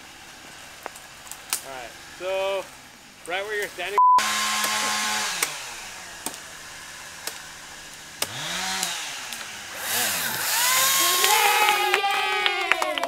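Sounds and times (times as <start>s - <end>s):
chainsaw motor revving: 1.2s - 13.0s.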